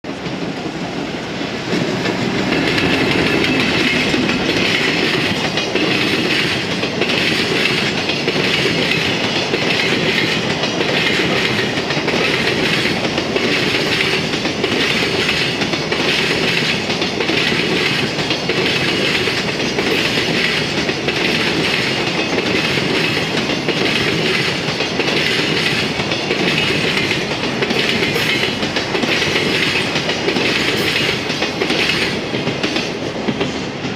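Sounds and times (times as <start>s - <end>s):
train wheels rumbling on rail: 0.0s - 33.9s
wheels clacking over rail joints: 0.1s - 33.9s.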